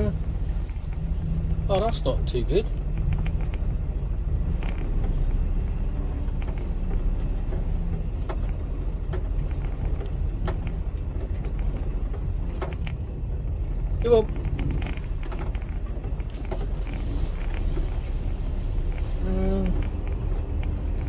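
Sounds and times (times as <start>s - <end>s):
diesel truck engine rumbling: 0.0s - 21.0s
faint knocks and creaks: 0.0s - 21.0s.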